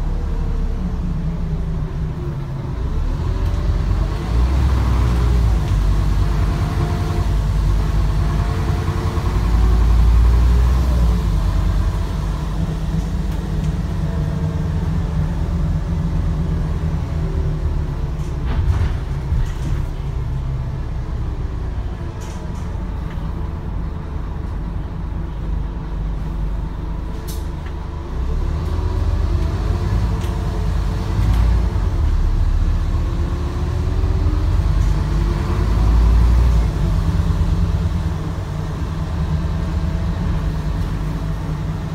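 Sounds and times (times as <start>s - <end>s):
bus engine: 0.0s - 41.9s.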